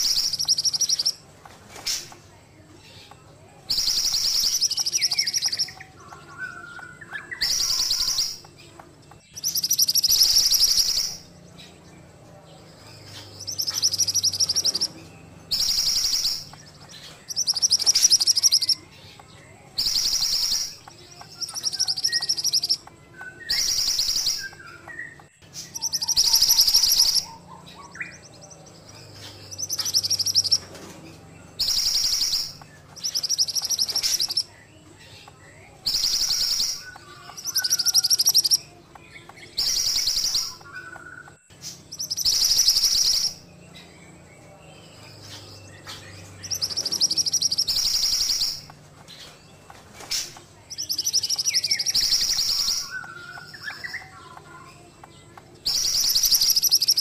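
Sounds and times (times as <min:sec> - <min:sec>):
songbird trilling: 0:00.0 - 0:57.0.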